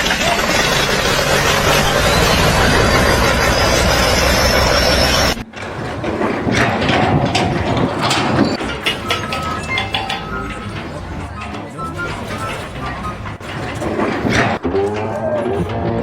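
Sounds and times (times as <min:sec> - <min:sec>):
machine engine running: 0:00.0 - 0:16.0
mechanical clanks and knocks: 0:00.0 - 0:16.0.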